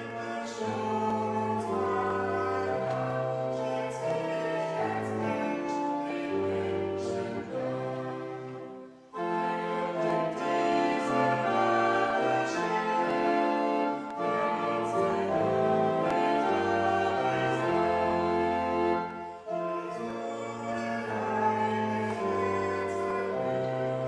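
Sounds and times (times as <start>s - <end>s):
man and woman singing a hymn: 0.0s - 24.0s
pipe organ: 0.0s - 24.0s.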